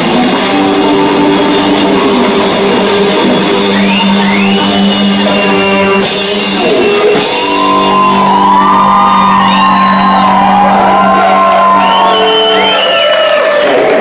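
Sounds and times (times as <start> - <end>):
electric guitar bending notes: 0.0 - 12.8.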